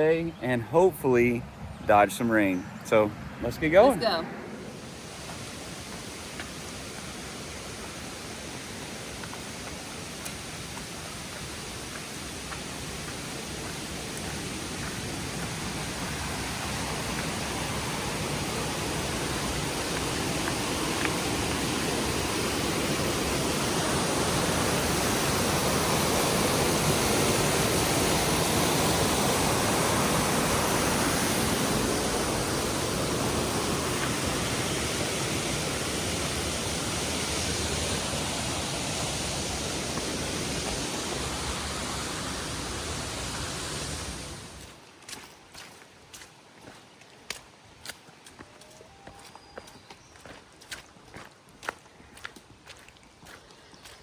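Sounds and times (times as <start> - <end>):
stream water rushing: 2.9 - 54.0.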